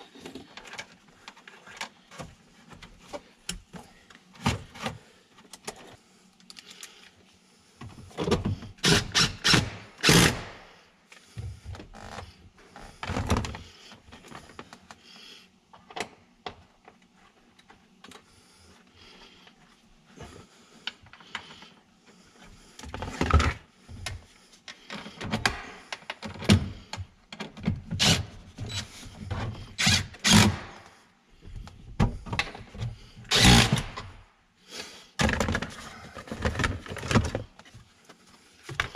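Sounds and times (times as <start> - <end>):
clunks and rattles of hand work: 0.0 - 6.8, 7.8 - 10.5, 11.1 - 15.0, 19.4 - 38.9.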